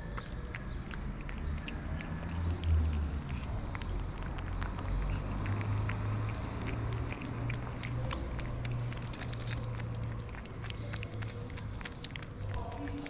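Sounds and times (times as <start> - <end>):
cats chewing and lapping food: 0.0 - 13.0.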